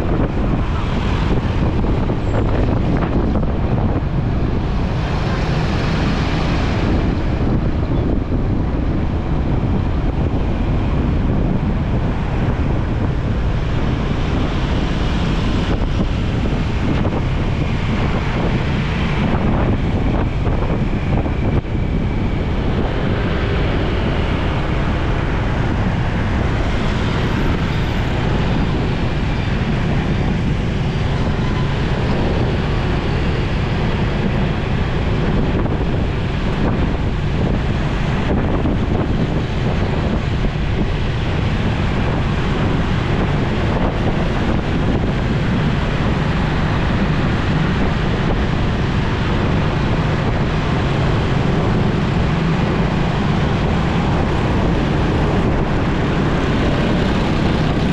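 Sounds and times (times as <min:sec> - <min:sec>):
motorcycle noise: 0:00.0 - 0:57.9
wind rushing on microphone: 0:00.0 - 0:57.9.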